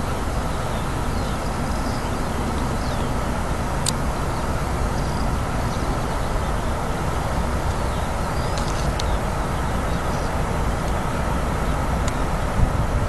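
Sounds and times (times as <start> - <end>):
distant freight train rumble: 0.0 - 13.0.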